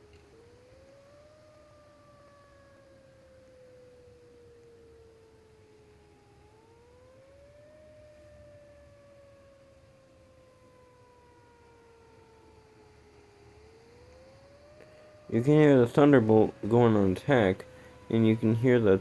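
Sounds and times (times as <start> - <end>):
distant warning siren wailing: 0.0 - 19.0.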